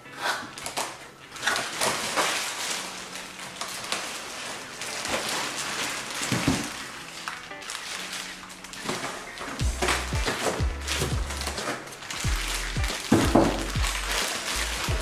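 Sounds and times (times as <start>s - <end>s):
plastic bag crinkling: 0.5s - 15.0s.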